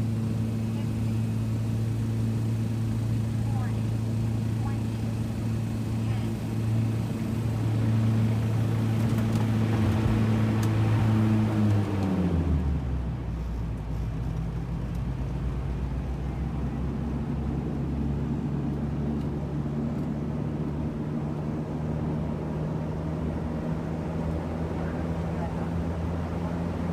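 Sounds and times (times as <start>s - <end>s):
turboprop engines droning: 0.0s - 26.9s.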